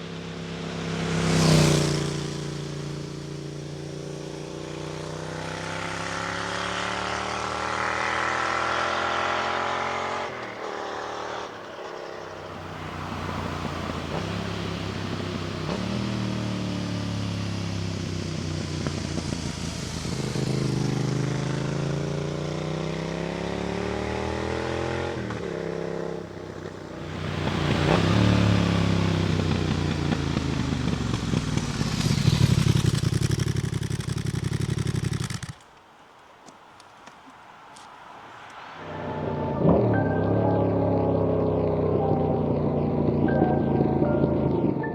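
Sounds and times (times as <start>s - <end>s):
motorcycle engine revving: 0.0s - 35.7s, 38.8s - 44.9s.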